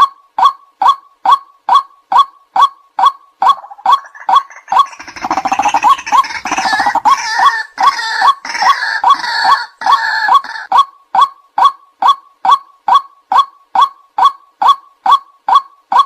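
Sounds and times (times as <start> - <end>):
waterhen croaking calls: 0.4 - 16.0.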